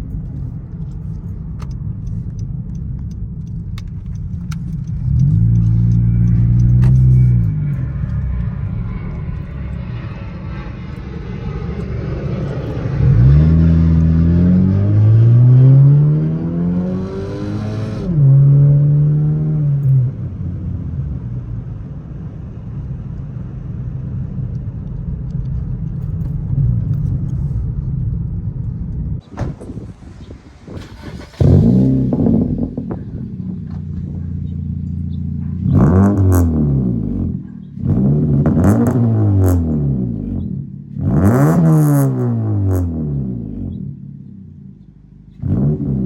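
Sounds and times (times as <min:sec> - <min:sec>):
car exhaust drone and revving: 0:00.0 - 0:46.0.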